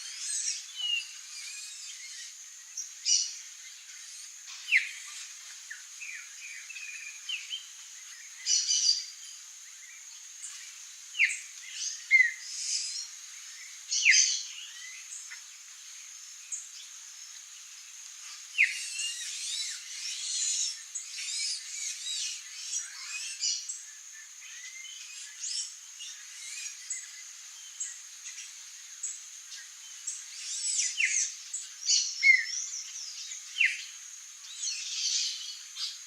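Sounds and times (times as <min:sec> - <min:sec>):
songbirds chirping: 0:00.0 - 0:36.0
steady high hiss: 0:00.0 - 0:36.0.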